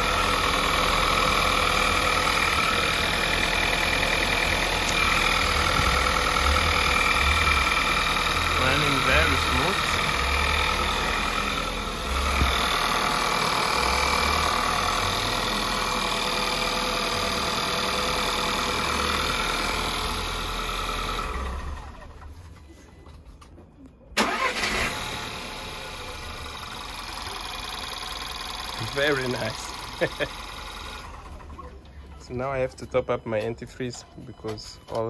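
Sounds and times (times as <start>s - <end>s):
car engine idling: 0.0s - 22.8s, 24.2s - 33.9s.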